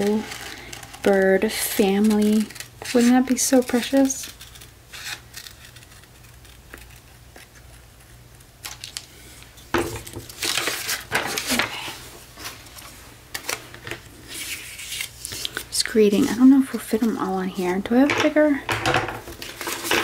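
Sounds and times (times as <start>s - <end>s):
paper rustling and crinkling: 0.0s - 17.9s, 19.2s - 20.0s.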